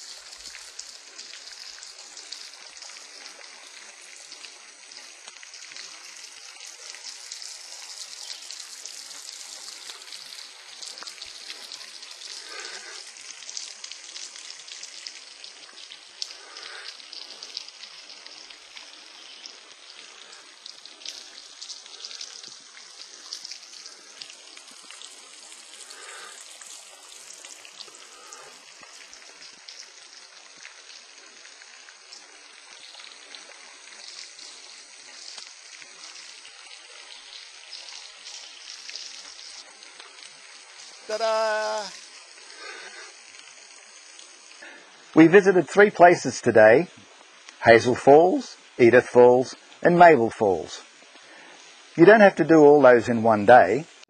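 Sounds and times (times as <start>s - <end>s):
waterfall spattering into pool: 0.0s - 54.0s.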